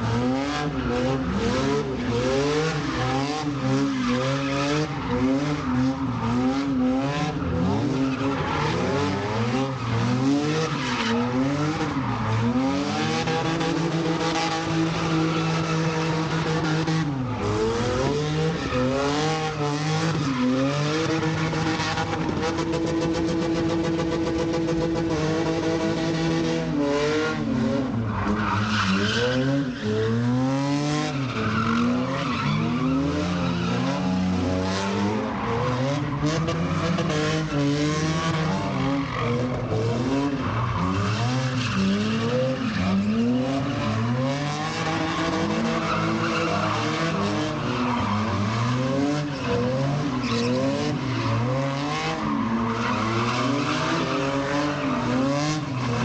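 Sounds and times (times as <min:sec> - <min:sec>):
car engine revving: 0:00.0 - 0:56.0
tyres skidding and squealing: 0:00.0 - 0:56.0.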